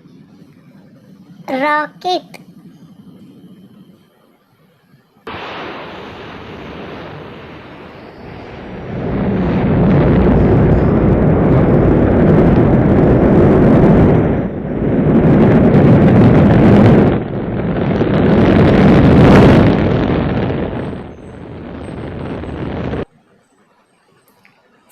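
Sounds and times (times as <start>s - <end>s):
rocket engines firing: 0.0s - 23.1s.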